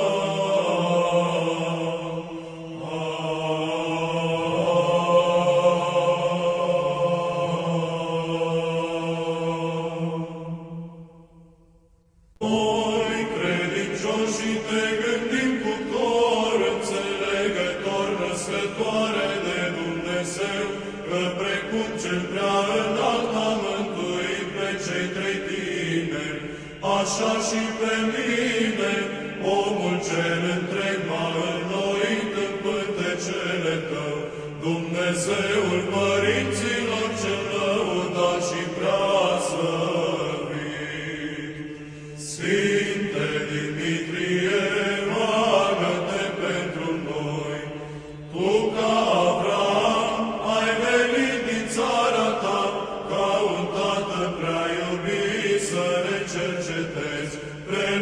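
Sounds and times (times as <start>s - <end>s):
voices chanting slow melody: 0.0s - 11.8s, 12.4s - 58.0s
held vocal drone: 0.0s - 58.0s.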